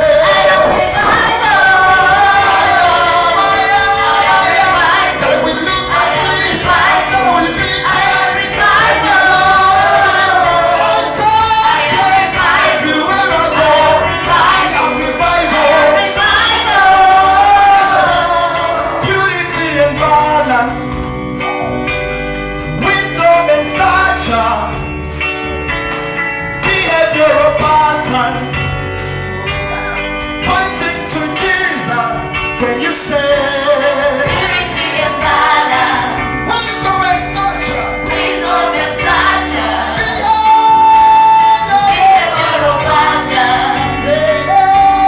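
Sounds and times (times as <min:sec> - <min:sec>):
band with bass: 0:00.0 - 0:45.0
voices singing gospel: 0:00.0 - 0:45.0.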